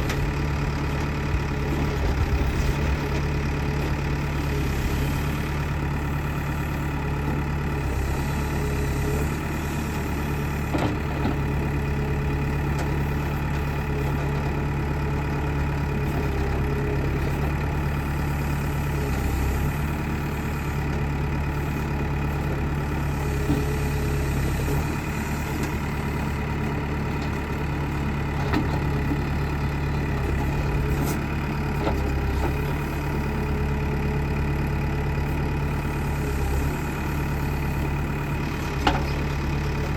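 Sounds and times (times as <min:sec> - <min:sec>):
heavy engine running steadily: 0:00.0 - 0:39.9.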